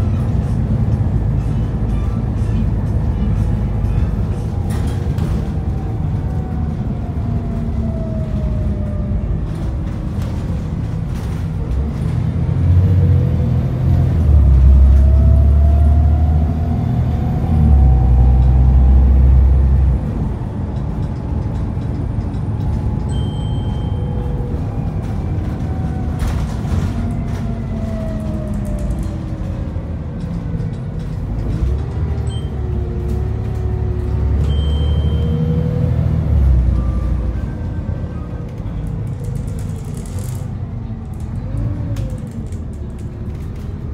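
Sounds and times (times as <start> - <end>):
bus diesel engine rumbling: 0.0 - 43.9.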